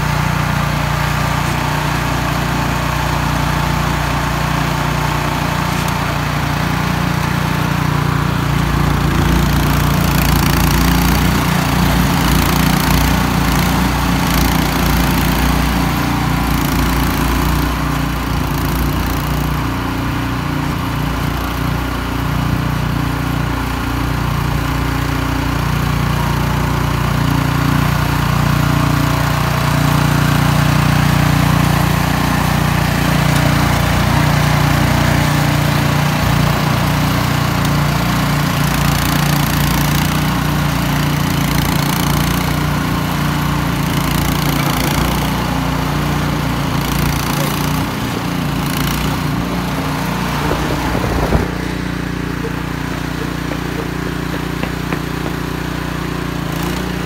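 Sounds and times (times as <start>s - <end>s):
snow blower engine running: 0.0s - 57.0s.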